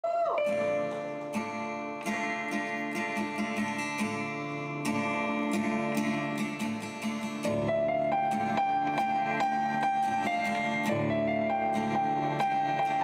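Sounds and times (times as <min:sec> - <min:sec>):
acoustic guitar strumming chords: 0:00.4 - 0:13.0.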